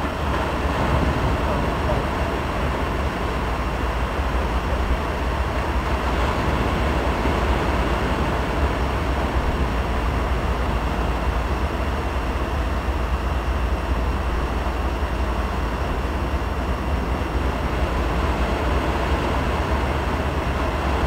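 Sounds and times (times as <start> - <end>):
ocean surf roaring: 0.0 - 21.0.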